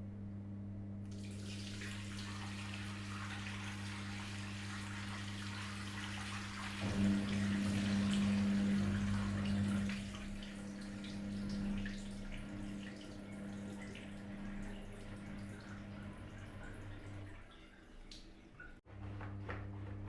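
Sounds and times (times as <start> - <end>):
low electric hum: 0.0 - 20.0
running and dripping water: 1.1 - 18.8.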